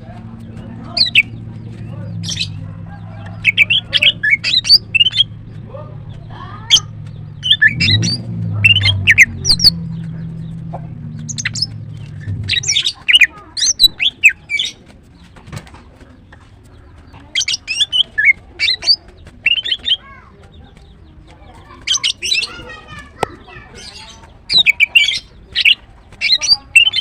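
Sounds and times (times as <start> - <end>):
bird sharp chirping notes: 0.0 - 15.4, 16.6 - 27.0.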